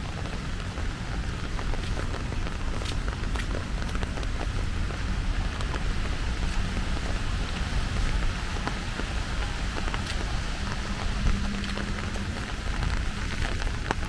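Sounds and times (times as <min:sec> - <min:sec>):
low rumble: 0:00.0 - 0:14.0
rain hissing: 0:00.0 - 0:14.0
sharp raindrop ticks: 0:00.0 - 0:14.0.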